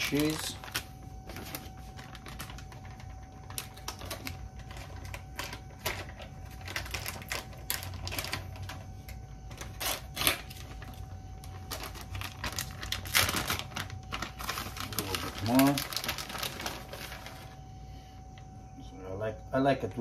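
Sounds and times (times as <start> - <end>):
plastic bag crinkling: 0.0 - 17.6
faint steady tone: 0.0 - 20.0.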